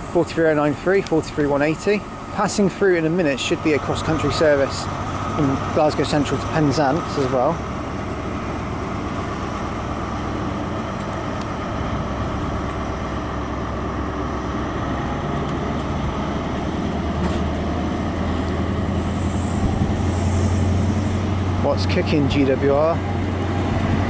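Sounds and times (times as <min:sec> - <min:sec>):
diesel train engine rumble: 0:00.0 - 0:24.0
train coaches on rails: 0:00.0 - 0:24.0.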